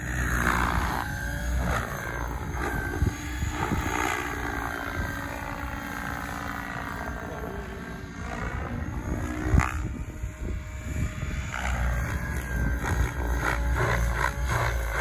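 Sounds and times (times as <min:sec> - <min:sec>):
wind rumble on microphone: 0:00.0 - 0:06.9, 0:07.8 - 0:15.0
rc helicopter motor whine: 0:00.0 - 0:15.0
rotor blades swishing: 0:00.0 - 0:15.0.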